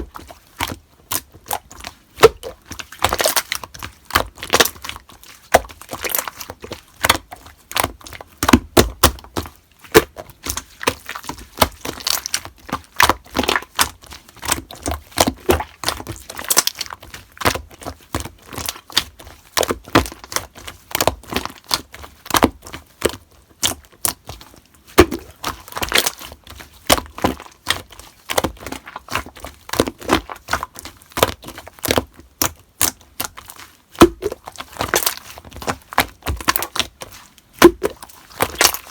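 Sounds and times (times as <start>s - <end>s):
slime popping and crackling: 0.0s - 38.9s.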